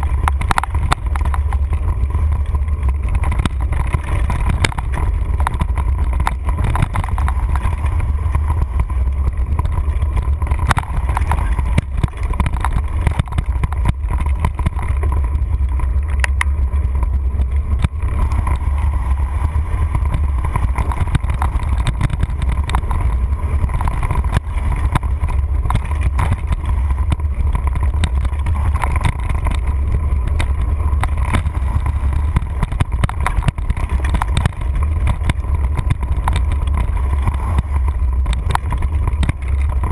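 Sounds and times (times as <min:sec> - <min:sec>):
bike clicks and rattles: 0:00.0 - 0:39.9
rumble of trail vibration and wind: 0:00.0 - 0:39.9.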